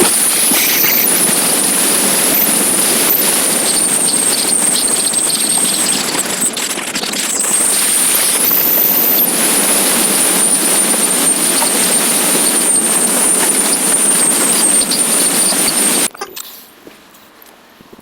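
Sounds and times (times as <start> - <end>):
motorcycle engine running: 0.0 - 16.1
wind noise: 0.0 - 16.1
high-pitched whine: 0.0 - 16.4.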